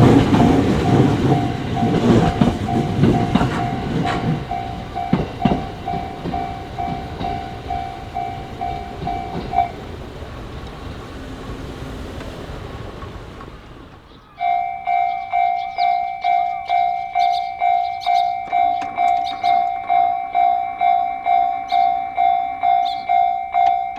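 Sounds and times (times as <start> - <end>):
level-crossing warning bell: 0.0 - 12.5, 14.0 - 23.9
train rumbling past: 0.0 - 23.9
train wheel clacks: 0.0 - 23.9.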